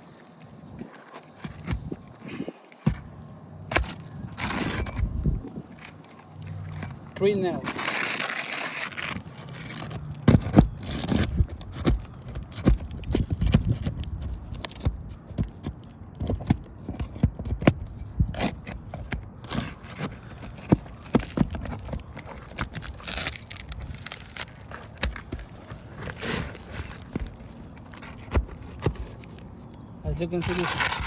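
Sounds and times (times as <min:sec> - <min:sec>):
knocks taps and scraping: 0:00.4 - 0:05.1, 0:05.7 - 0:31.0.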